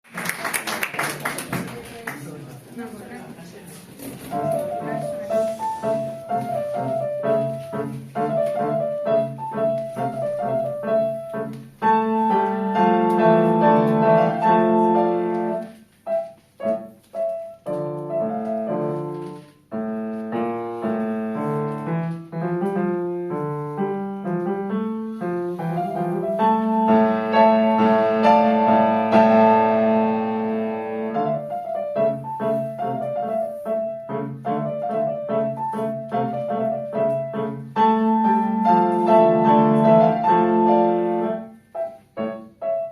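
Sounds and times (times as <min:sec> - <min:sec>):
solo piano playing: 0:04.3 - 0:42.9.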